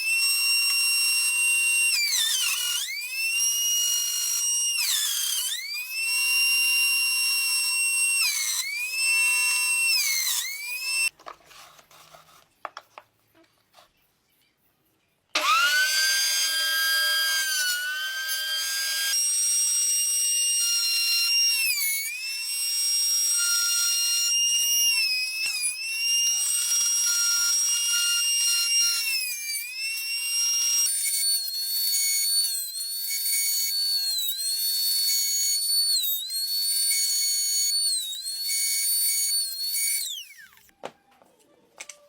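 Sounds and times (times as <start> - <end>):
power tool whining into wood: 0.0 - 11.1, 15.4 - 40.8.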